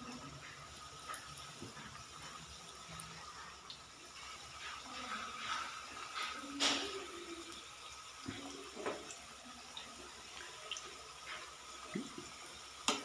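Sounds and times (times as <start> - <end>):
dough frying in oil: 0.0 - 13.0.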